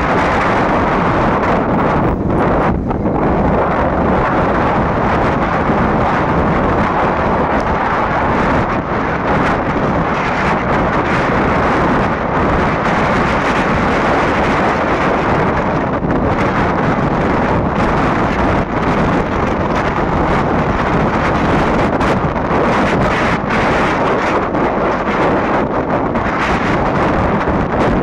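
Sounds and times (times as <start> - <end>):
vehicle running: 0.0 - 28.0
wind rushing on microphone: 0.0 - 28.0.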